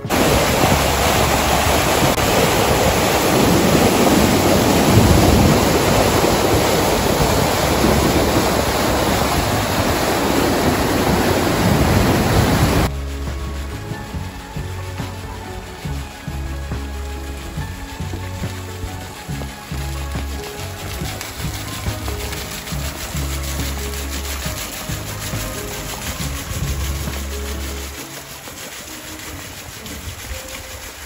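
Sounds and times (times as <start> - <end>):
water gushing into a lake: 0.0 - 31.0.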